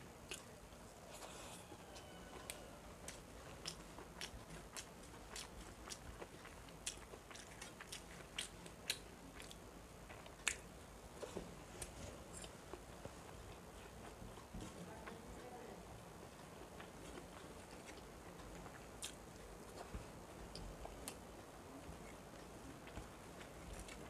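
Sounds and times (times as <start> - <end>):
chewing food: 0.2 - 24.0.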